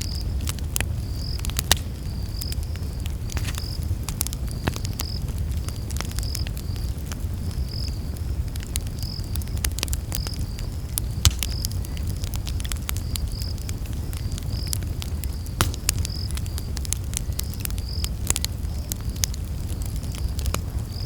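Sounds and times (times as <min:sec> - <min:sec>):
campfire crackling and popping: 0:00.0 - 0:21.0
low rumble of flames: 0:00.0 - 0:21.0.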